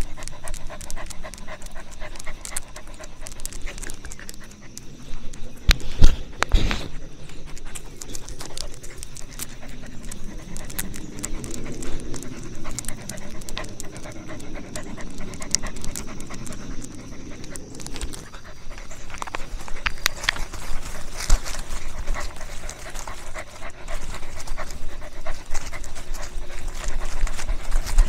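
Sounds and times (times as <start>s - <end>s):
dog panting: 0.0s - 28.0s.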